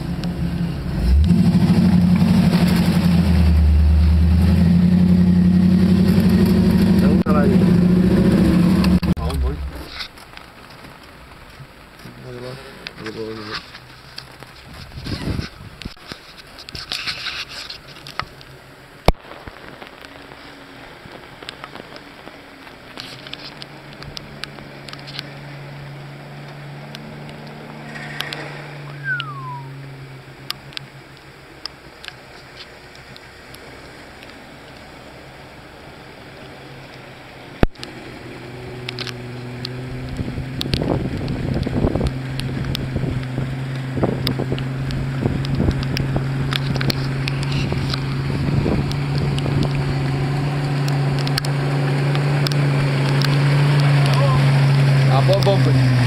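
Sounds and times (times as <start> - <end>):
rain pattering on water: 0.0 - 7.9, 8.5 - 56.0
water splashing: 0.0 - 15.1, 16.1 - 56.0
car engine droning: 0.0 - 15.5, 17.9 - 56.0.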